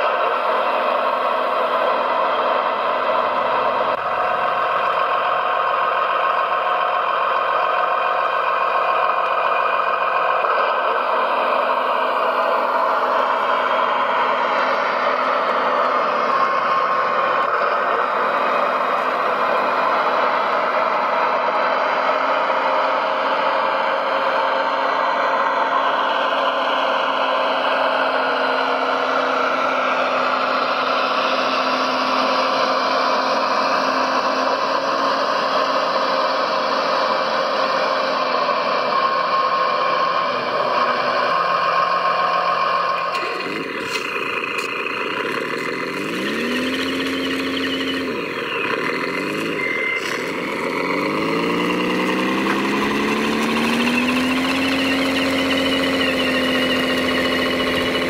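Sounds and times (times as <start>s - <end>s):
small engines revving: 0.0s - 58.0s.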